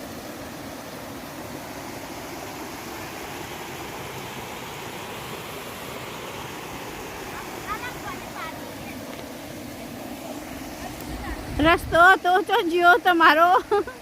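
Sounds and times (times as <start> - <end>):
stream running over rocks: 0.0 - 14.0.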